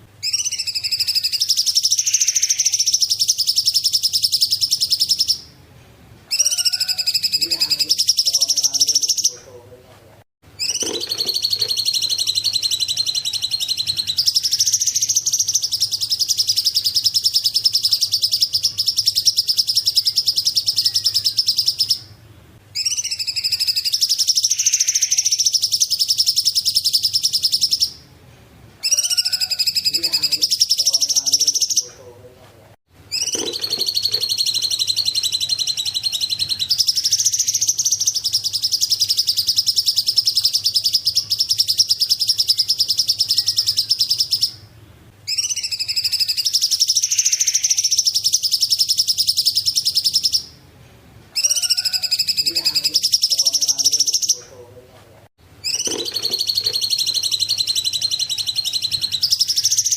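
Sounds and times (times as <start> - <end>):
songbird high-pitched trills: 0.2 - 5.5, 6.3 - 9.5, 10.6 - 22.2, 22.8 - 28.0, 28.8 - 32.0, 33.1 - 44.7, 45.3 - 50.6, 51.4 - 54.5, 55.6 - 59.9.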